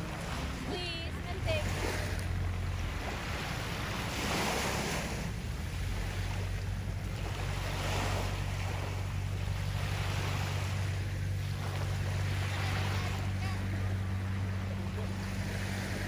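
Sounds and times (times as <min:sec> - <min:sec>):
small waves washing on sand: 0:00.0 - 0:16.0
steady low rumble: 0:00.0 - 0:16.0.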